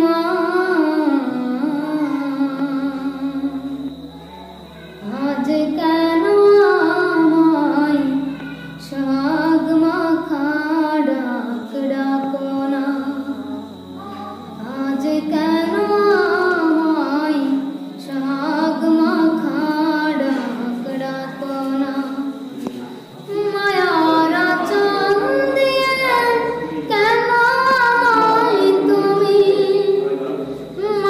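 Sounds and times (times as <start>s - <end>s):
boy singing unaccompanied: 0.0s - 31.0s.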